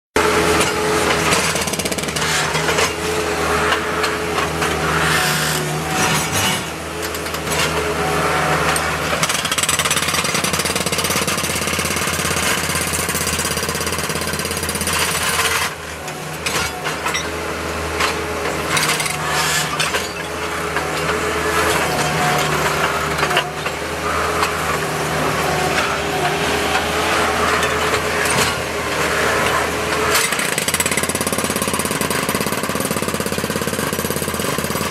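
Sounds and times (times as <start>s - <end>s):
hydraulic breaker hammering concrete: 0.2s - 34.9s
loader engine drone: 0.2s - 34.9s.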